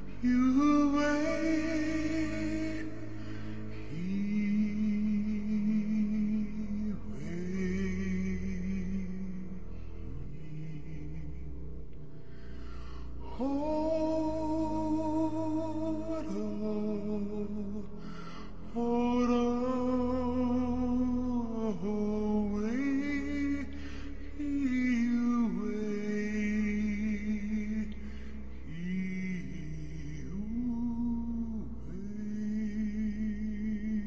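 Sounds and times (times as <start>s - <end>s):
slow gliding background music: 0.0s - 34.0s
steady low drone: 0.0s - 34.0s.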